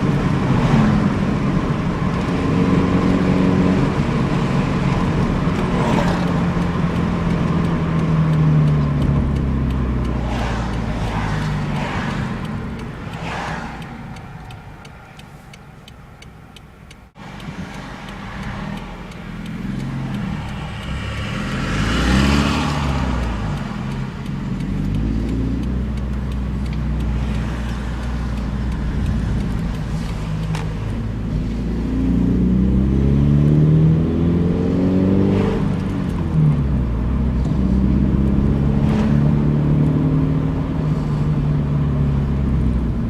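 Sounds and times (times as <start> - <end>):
car exhaust drone: 0.0 - 43.0.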